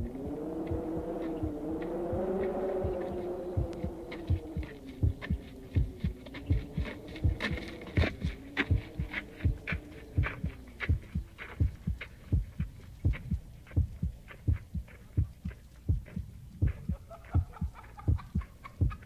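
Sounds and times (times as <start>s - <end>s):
heartbeat: 0.0s - 19.0s.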